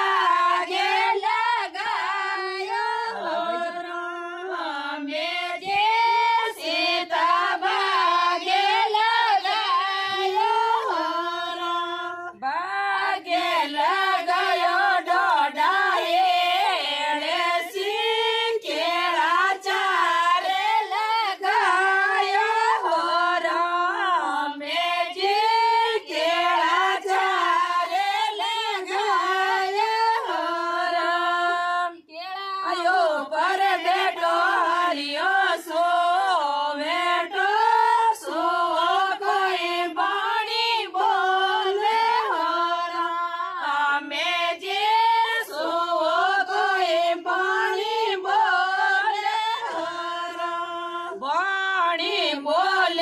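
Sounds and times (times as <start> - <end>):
women singing unaccompanied: 0.0 - 53.0.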